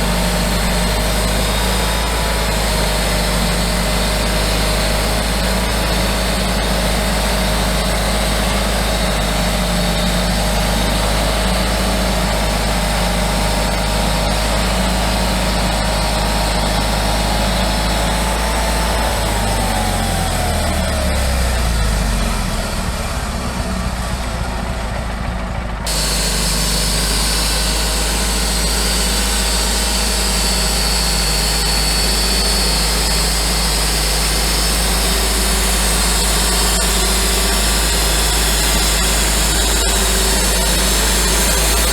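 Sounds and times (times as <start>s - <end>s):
sawmill engine running with whine: 0.0s - 41.9s.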